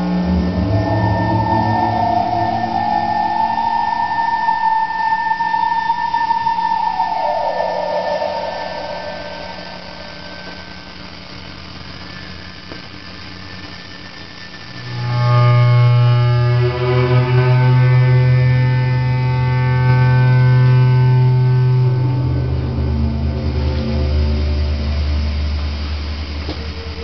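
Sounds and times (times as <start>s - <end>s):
low buzzy synthesizer drone: 0.0s - 27.0s.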